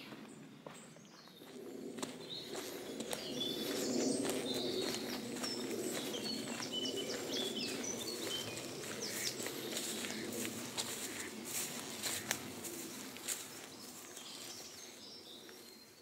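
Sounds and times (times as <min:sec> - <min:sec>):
songbirds chirping and whistling: 0:00.2 - 0:16.0.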